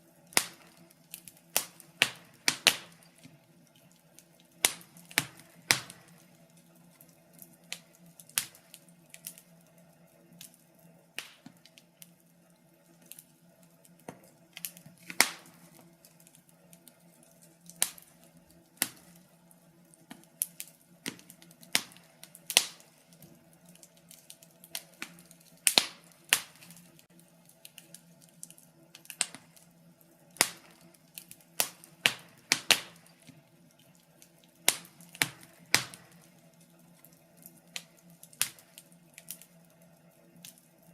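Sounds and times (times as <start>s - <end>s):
wood fire crackling: 0.0s - 40.9s
sharp pops of burning wood: 0.3s - 10.6s, 11.2s - 12.2s, 12.9s - 29.7s, 30.3s - 39.6s.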